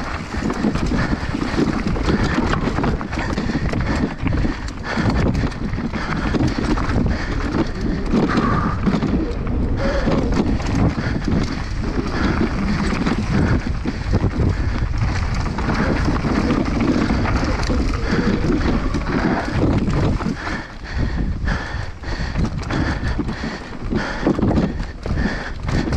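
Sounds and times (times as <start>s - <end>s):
bike rattling over bumps: 0.0s - 25.9s
tyres rumbling on dirt: 0.0s - 25.9s
wind buffeting microphone: 0.0s - 25.9s.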